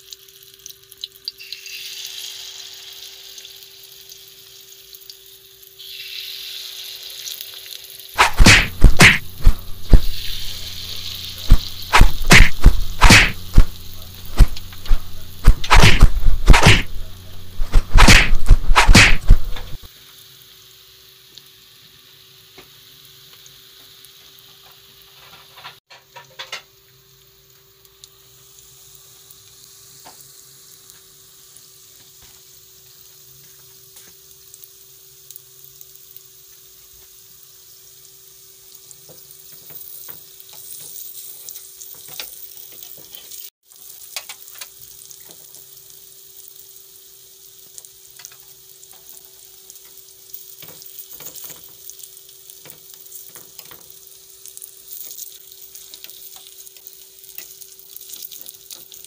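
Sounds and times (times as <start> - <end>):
batter sizzling in a pan: 0.0 - 59.0.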